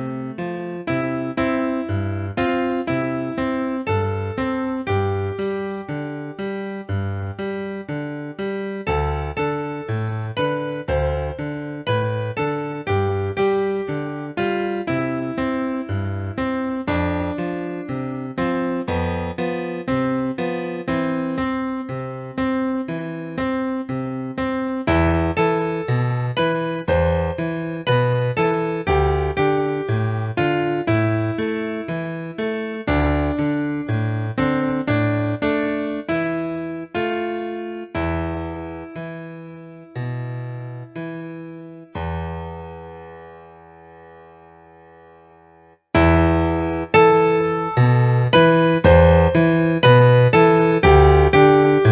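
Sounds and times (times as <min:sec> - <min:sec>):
piano piece: 0:00.0 - 0:51.9.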